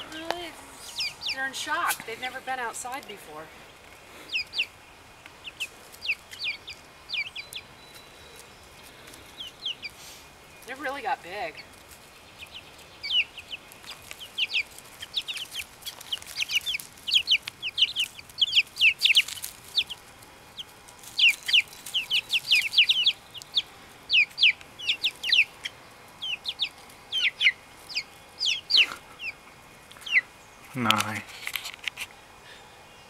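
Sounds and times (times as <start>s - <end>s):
chicks peeping: 0.0s - 32.2s.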